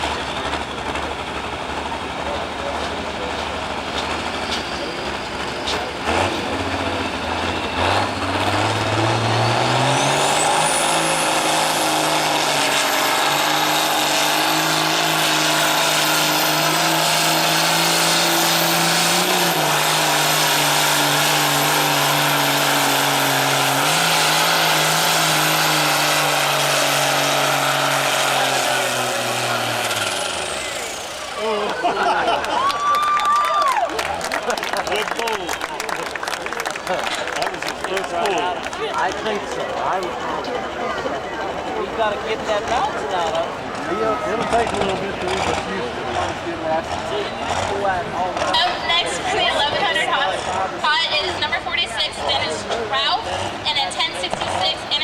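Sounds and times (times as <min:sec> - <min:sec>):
diesel engine revving under load: 0:00.0 - 0:55.0.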